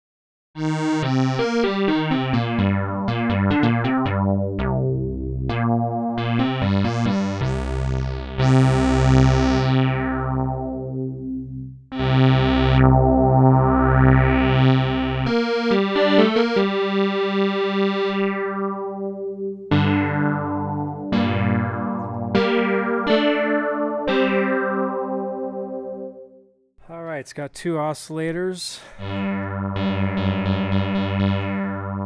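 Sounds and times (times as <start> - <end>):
analog synthesizer chords pulsing: 0.6 - 26.2, 29.0 - 32.0.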